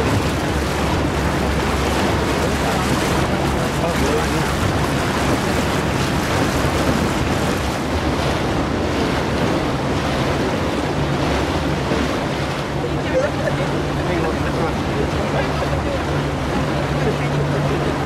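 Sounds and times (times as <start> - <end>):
boat motor running: 0.0 - 18.0
water rushing along hull: 0.0 - 18.0
wind on microphone: 0.0 - 18.0.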